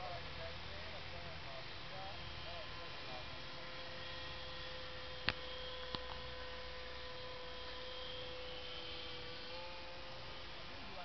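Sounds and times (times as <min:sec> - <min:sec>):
model airplane motor humming: 0:00.0 - 0:11.0.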